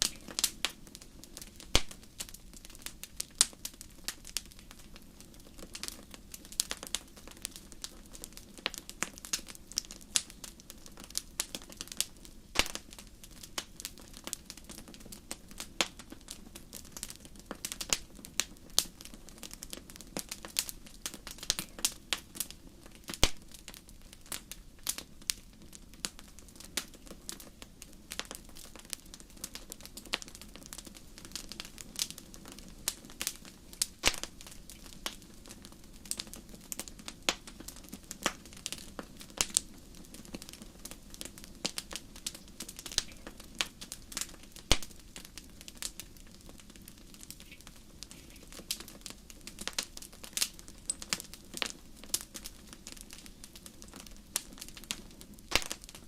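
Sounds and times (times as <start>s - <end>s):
soft steady hiss: 0.0s - 56.0s
wood fire crackling: 0.0s - 56.0s.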